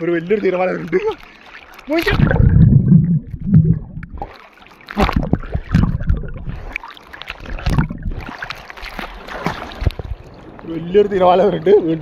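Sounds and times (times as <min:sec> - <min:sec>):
sea waves sloshing and splashing: 0:00.0 - 0:12.0.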